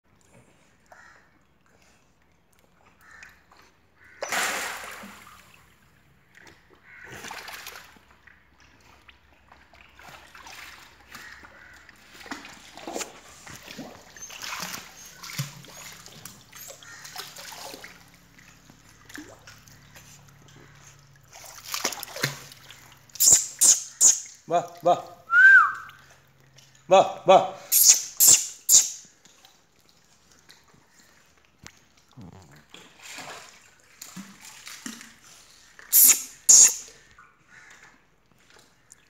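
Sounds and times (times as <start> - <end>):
dog paddling water splashing: 0.2 - 26.8, 29.0 - 39.0.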